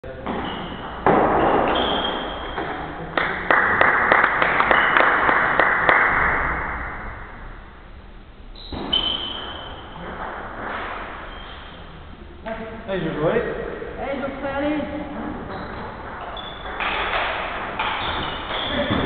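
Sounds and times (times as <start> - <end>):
sports hall din: 0.0 - 19.0.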